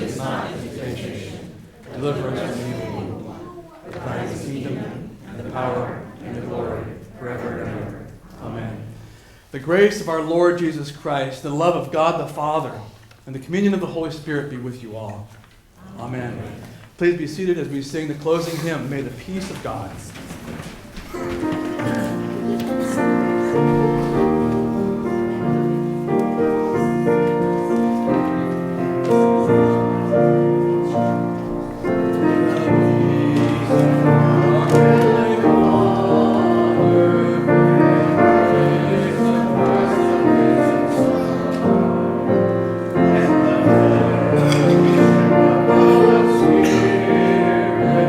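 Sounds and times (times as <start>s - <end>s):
hymn on piano and keyboard: 0.0s - 48.0s.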